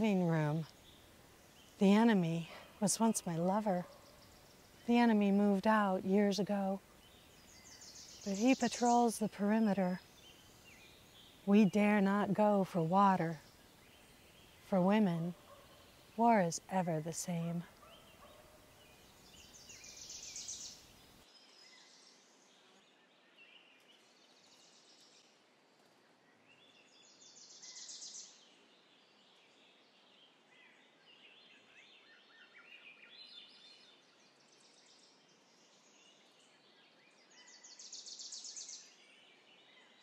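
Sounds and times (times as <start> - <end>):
quiet hiss: 0.0 - 40.0.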